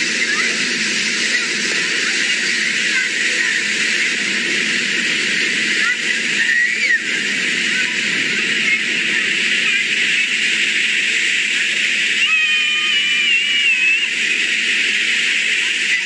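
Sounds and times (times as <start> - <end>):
floodwater roaring: 0.0 - 16.0.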